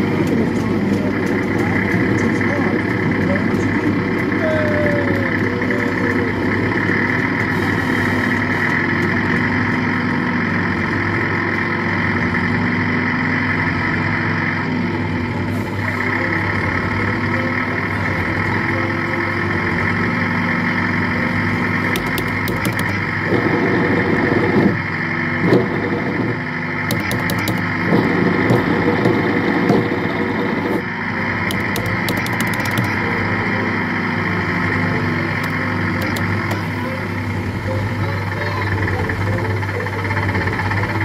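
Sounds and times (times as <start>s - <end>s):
kiddie ride engine drone: 0.0s - 41.0s.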